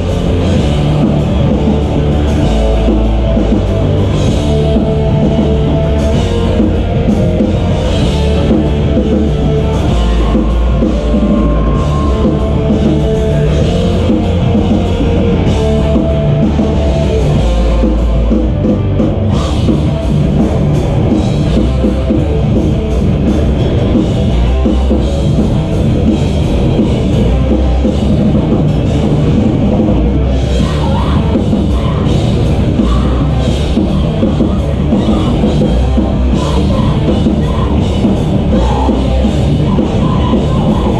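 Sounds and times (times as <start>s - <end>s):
electric guitar: 0.0s - 40.9s
heavy rock band playing: 0.0s - 40.9s
pounding drum kit: 0.0s - 40.9s.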